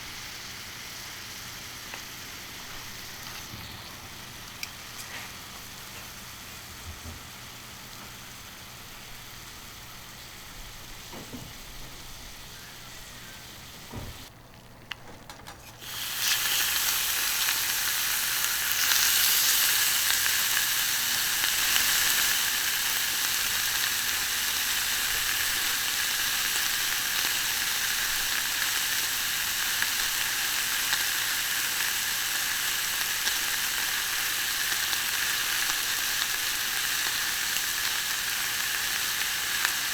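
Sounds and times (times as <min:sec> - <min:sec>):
steak sizzling on a griddle: 0:00.0 - 0:14.3, 0:15.8 - 0:39.9.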